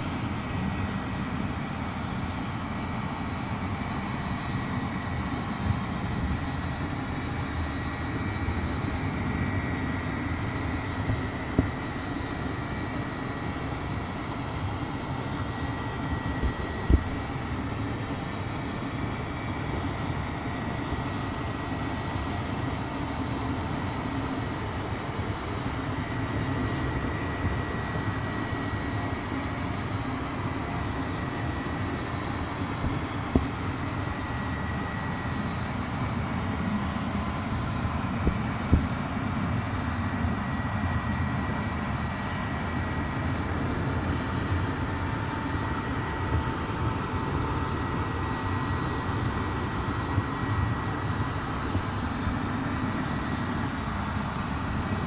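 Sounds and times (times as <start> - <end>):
faint high whine: 0.0 - 55.0.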